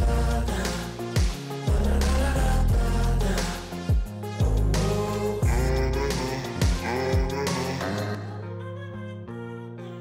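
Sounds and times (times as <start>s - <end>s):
rap music with sliding bass: 0.0s - 8.6s.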